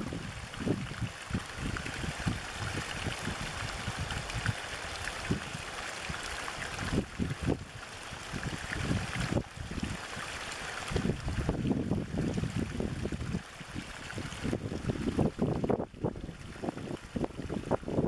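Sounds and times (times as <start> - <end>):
water splashing into pool: 0.0 - 17.6.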